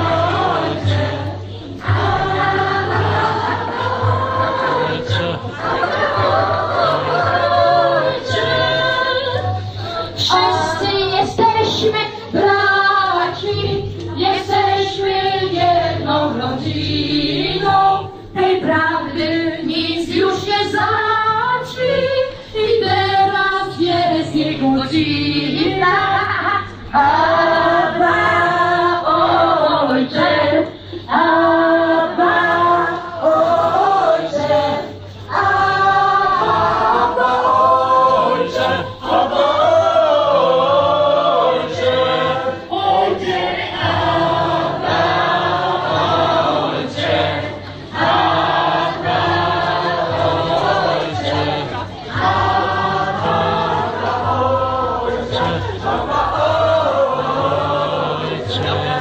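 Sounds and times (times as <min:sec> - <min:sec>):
choir singing: 0:00.0 - 0:59.0
low musical accompaniment: 0:00.0 - 0:59.0.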